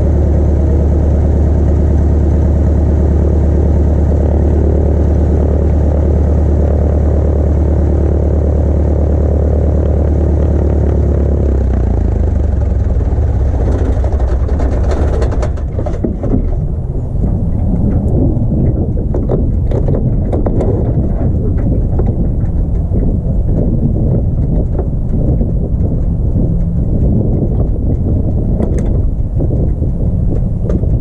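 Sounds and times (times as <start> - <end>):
piston aircraft engine running: 0.0 - 31.0.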